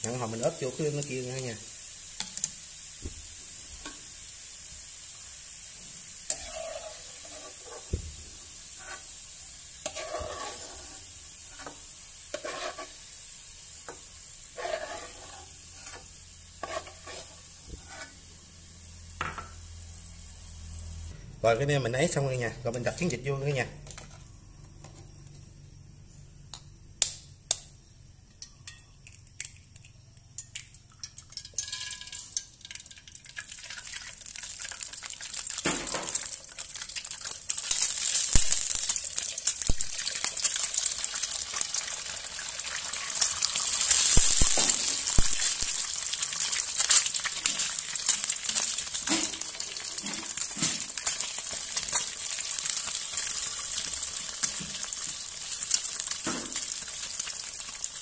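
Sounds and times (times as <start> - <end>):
eggs sizzling in hot oil: 0.0 - 25.8, 26.4 - 58.0.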